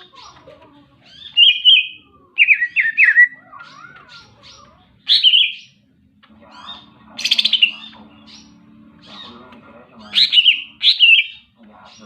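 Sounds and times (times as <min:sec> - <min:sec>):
bird singing: 0:01.0 - 0:12.0.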